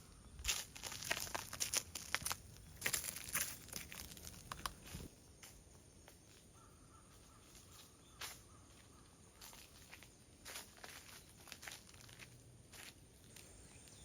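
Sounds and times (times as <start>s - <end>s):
footsteps crunching on forest path: 0.0s - 14.0s
woodland ambience: 0.0s - 14.0s.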